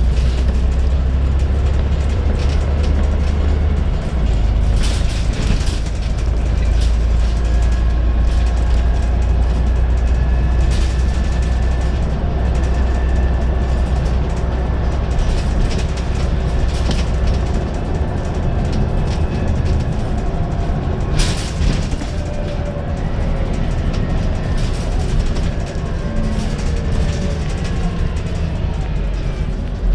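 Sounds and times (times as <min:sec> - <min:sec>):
bus body rattles: 0:00.0 - 0:29.9
bus engine rumbling: 0:00.0 - 0:29.9.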